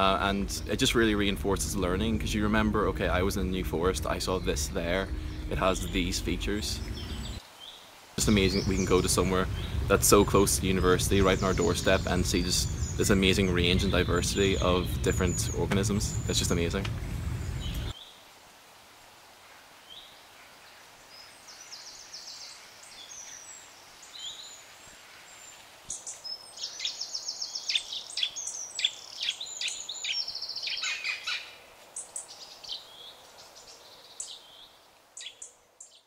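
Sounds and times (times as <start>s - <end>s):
songbirds singing: 0.0s - 18.2s, 19.8s - 36.0s.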